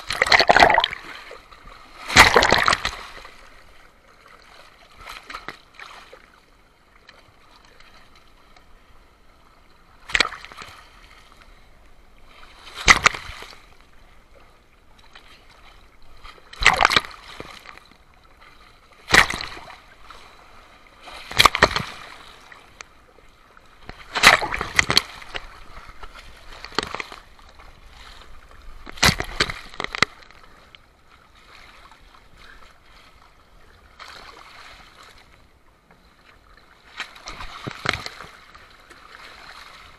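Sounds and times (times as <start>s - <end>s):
low wash of water: 0.0s - 39.9s
sea waves breaking: 0.0s - 39.9s.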